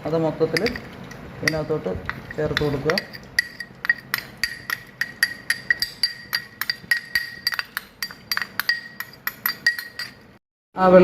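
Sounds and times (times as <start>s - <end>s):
spoon clinking against bowl: 0.5s - 10.4s.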